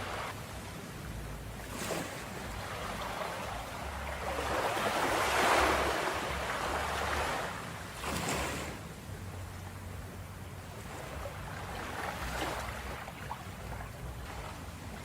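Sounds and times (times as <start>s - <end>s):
surf splashes: 0.0s - 9.6s, 10.6s - 15.0s
ocean waves washing onto beach: 0.0s - 15.0s.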